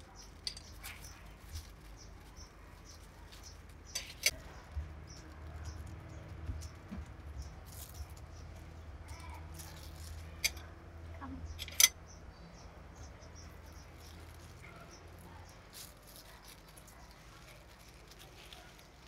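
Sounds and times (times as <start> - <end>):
plastic wrap crinkling: 0.0 - 10.4, 13.9 - 19.0.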